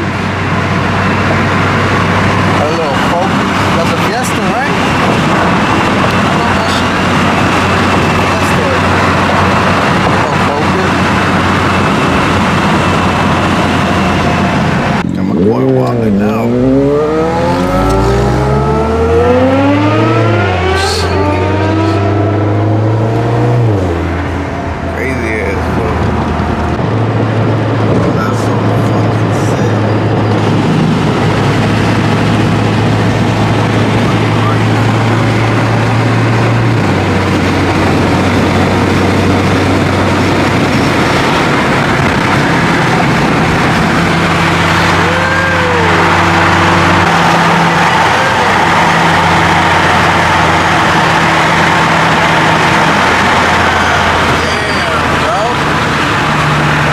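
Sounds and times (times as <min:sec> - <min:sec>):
car engine accelerating: 0:00.0 - 0:56.9
rising and falling tone: 0:11.1 - 0:56.9.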